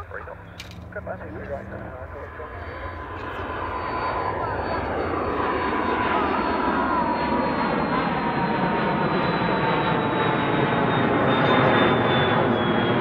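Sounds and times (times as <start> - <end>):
jet engine roar: 0.0 - 13.0
jet engine whine: 0.0 - 13.0.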